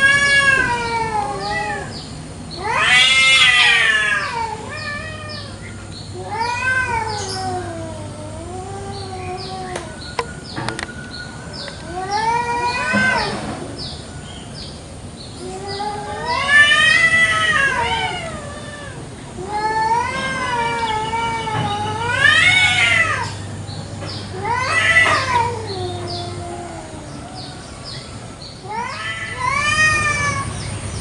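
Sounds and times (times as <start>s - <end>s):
cats yowling: 0.0s - 10.2s, 11.5s - 14.3s, 15.3s - 30.7s.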